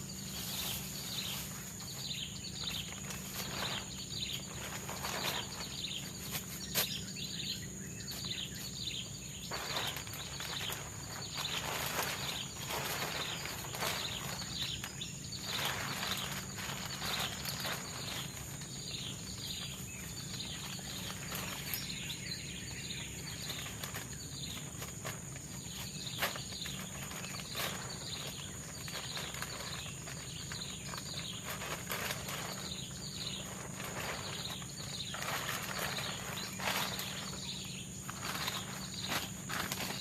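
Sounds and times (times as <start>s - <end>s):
high insect drone: 0.0s - 40.0s.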